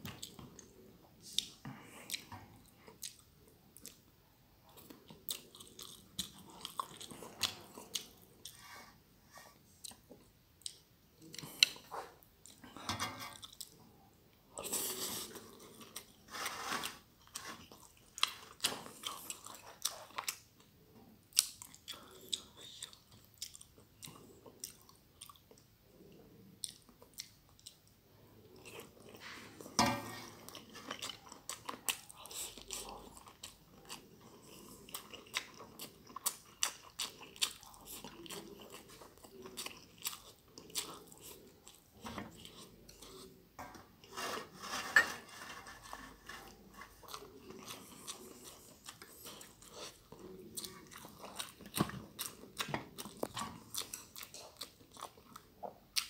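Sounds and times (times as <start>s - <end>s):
person chewing with wet smacks: 0.0s - 8.6s, 9.7s - 12.8s, 17.3s - 29.7s, 30.4s - 43.4s, 46.6s - 56.0s.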